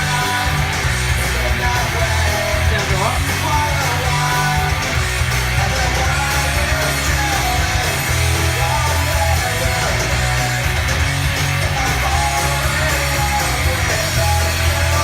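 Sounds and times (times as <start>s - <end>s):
person singing: 0.0s - 10.8s, 11.6s - 15.0s
rock music with electric guitar: 0.0s - 15.0s.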